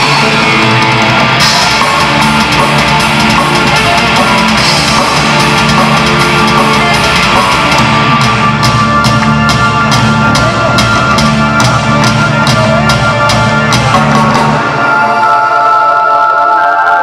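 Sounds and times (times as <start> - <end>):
heavy metal band playing live: 0.0 - 16.2.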